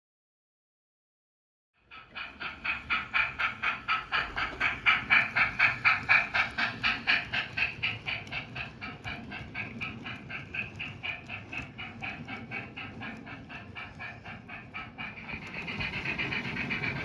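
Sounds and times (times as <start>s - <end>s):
model steam locomotive chuffing: 1.8s - 17.0s.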